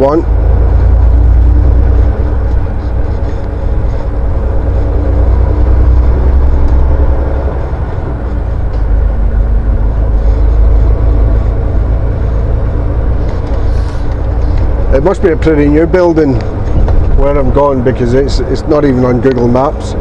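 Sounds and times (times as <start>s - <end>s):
truck diesel engine drone: 0.0s - 20.0s.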